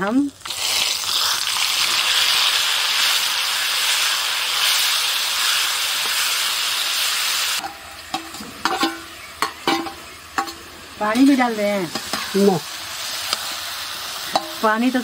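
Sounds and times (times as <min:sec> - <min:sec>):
paste sizzling in hot oil: 0:00.1 - 0:15.0.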